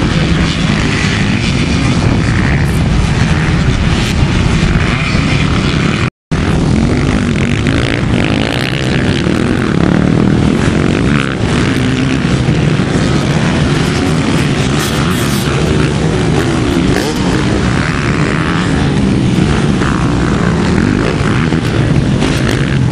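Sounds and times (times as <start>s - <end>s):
motocross engines revving: 0.0s - 22.9s.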